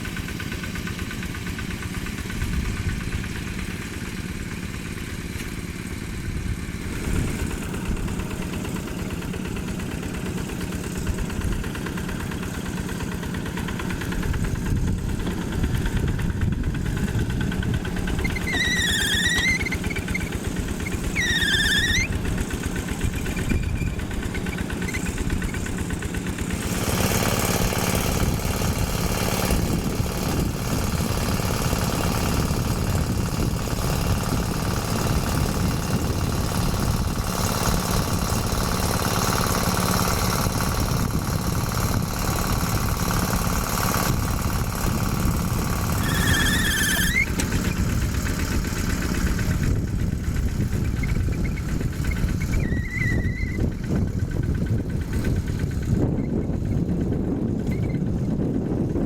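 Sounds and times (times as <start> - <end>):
hand tractor diesel engine: 0.0 - 59.0.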